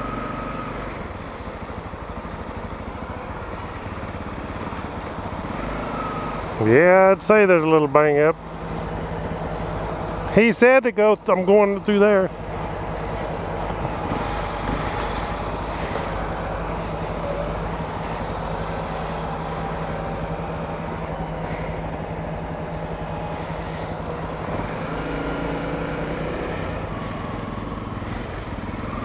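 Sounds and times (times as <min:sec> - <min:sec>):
motorcycle engine running steadily: 0:00.0 - 0:29.0.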